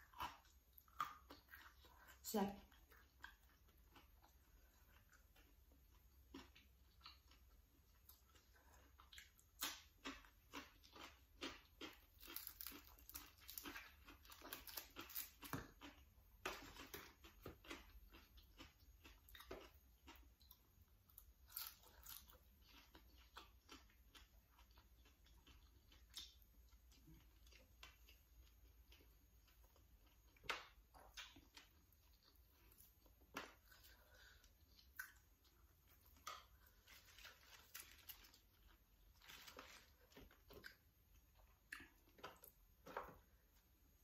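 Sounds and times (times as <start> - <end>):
person chewing with crisp clicks: 0.0 - 43.3.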